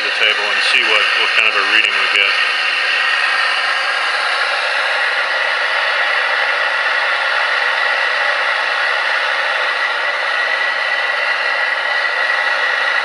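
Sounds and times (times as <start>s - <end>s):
stove burner roaring: 0.0s - 13.0s.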